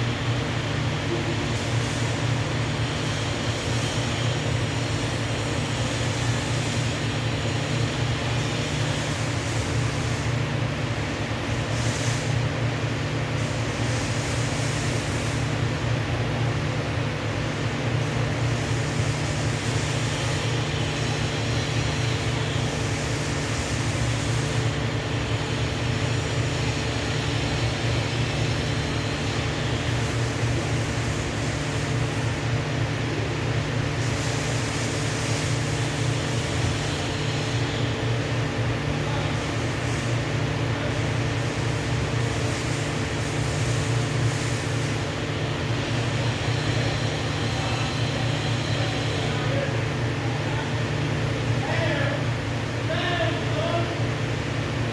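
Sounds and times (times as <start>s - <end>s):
welding hum and hiss: 0.0s - 54.9s.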